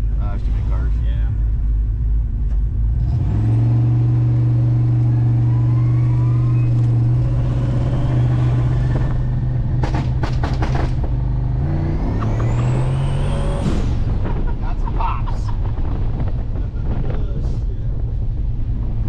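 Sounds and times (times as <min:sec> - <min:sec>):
car engine cruising from inside cabin: 0:00.0 - 0:15.5.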